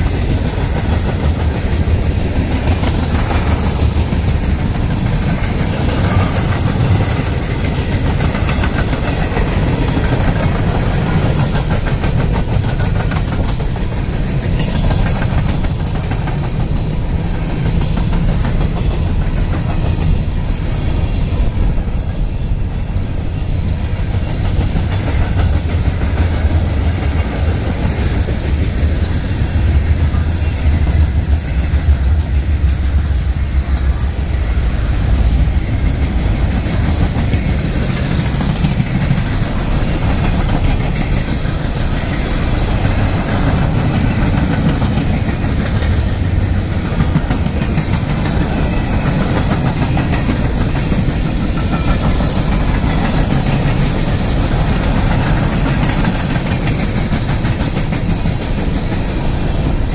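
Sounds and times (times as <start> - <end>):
fast clicking of train wheels: 0.0 - 59.9
steel wheels rumbling on rails: 0.0 - 59.9.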